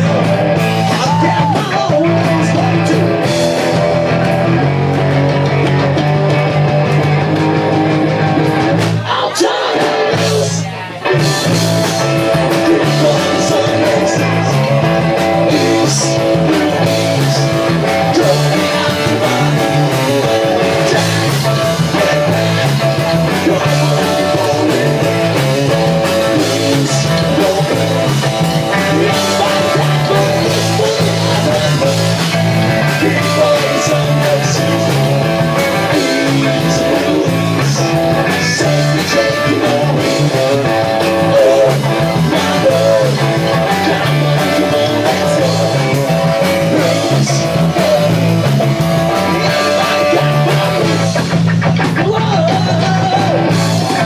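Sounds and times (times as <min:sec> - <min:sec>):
person singing: 0:00.0 - 0:04.0, 0:08.8 - 0:54.0
drum kit: 0:00.0 - 0:54.0
electric bass: 0:00.0 - 0:54.0
electric guitar: 0:00.0 - 0:54.0.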